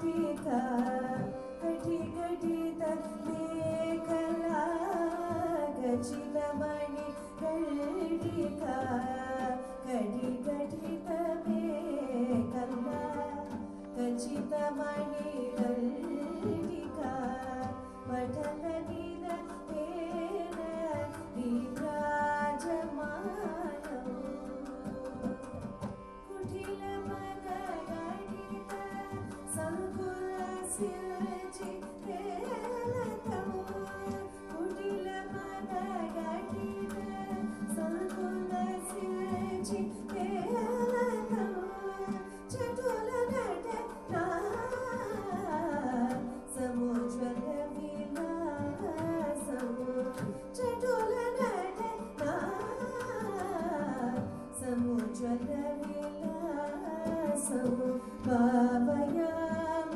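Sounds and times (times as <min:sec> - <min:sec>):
tabla: 0:00.0 - 0:59.9.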